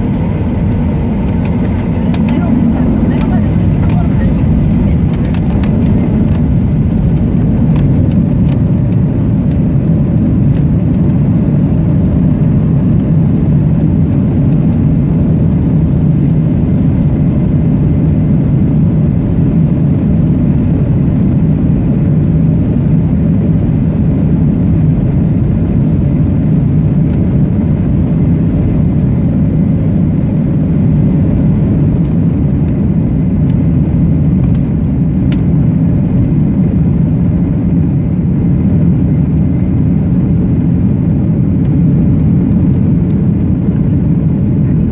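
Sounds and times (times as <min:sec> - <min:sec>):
airplane cabin engine roar: 0:00.0 - 0:44.9.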